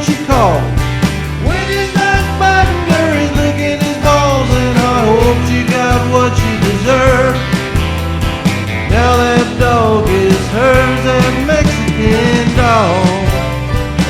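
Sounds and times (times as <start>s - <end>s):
country-rock band music: 0.0s - 14.0s
sliding lead guitar line: 0.0s - 14.0s.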